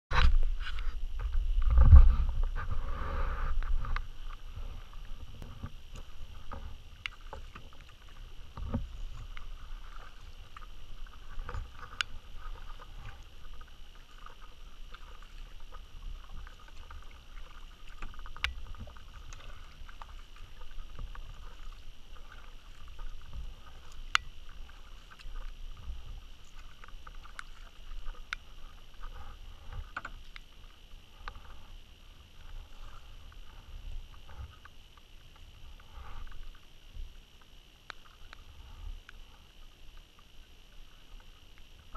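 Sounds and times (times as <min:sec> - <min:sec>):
paddle splashing in water: 0:00.1 - 0:36.5.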